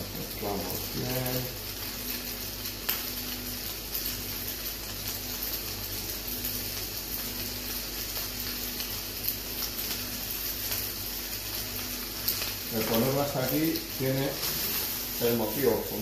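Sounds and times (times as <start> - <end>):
food sizzling in a frying pan: 0.0 - 16.0
small crackles: 0.1 - 16.0.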